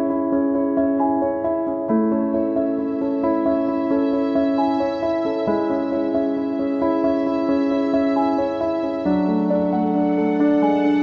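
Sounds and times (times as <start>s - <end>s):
soft piano melody: 0.0s - 11.0s.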